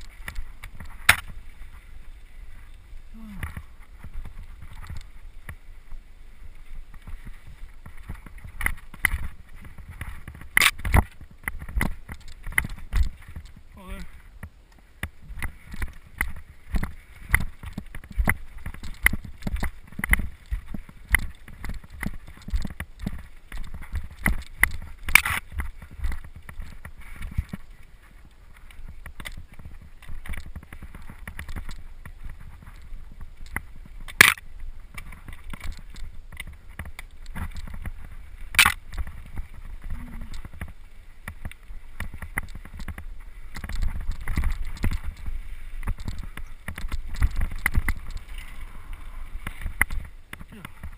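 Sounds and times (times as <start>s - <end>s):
mountain bike rattling: 0.0s - 50.9s.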